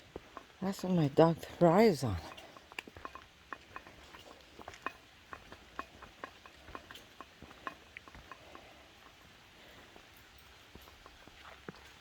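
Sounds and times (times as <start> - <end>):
faint irregular clicks and ticks: 1.4 - 12.0.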